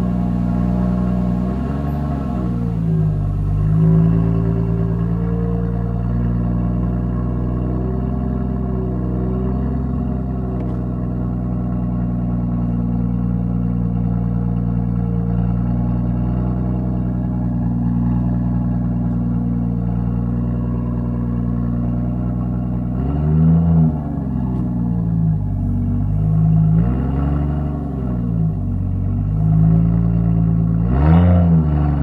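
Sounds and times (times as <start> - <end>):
car engine idling: 0.0 - 31.1
throttle blip revving engine: 0.0 - 32.0.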